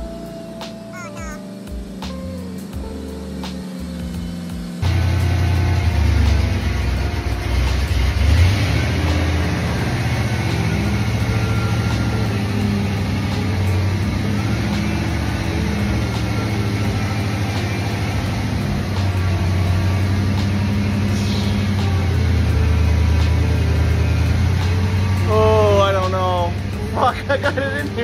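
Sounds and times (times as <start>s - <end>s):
truck engine running at low speed: 0.0s - 28.0s.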